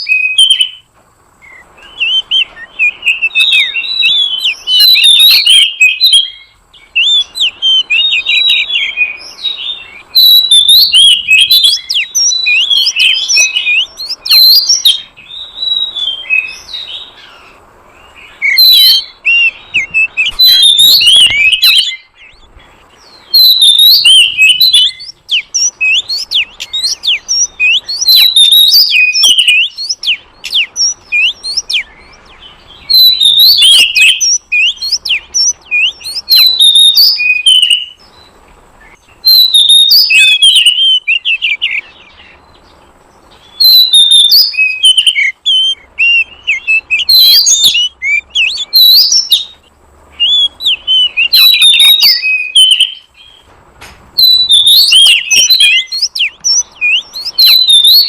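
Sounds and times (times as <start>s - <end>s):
bird chirping and whistling: 0.0s - 53.5s, 54.2s - 58.0s.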